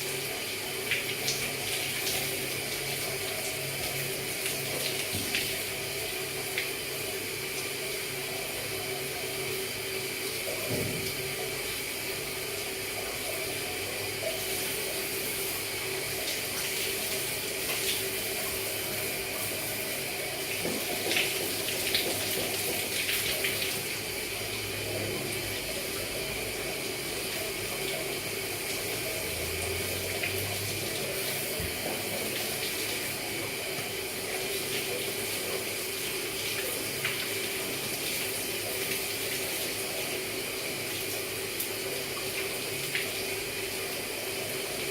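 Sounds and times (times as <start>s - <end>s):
shower water splashing: 0.0s - 44.9s.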